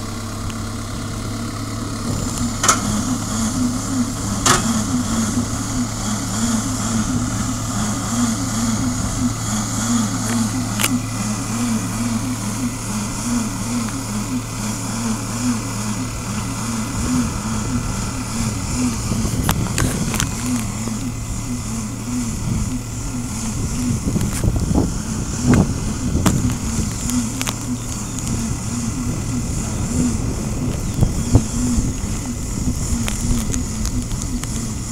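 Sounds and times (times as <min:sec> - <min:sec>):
tractor engine running: 0:00.0 - 0:34.9
wind buffeting microphone: 0:00.3 - 0:34.9.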